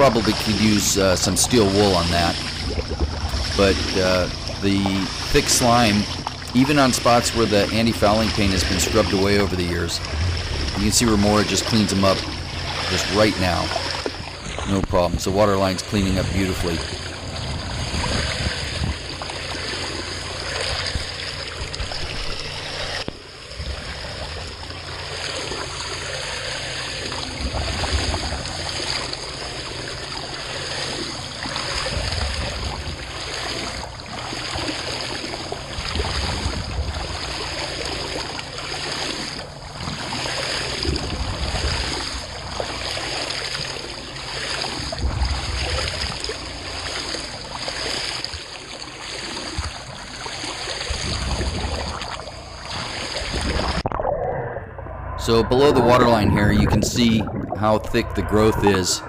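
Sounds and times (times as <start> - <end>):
rotary brush churning water: 0.0 - 59.0.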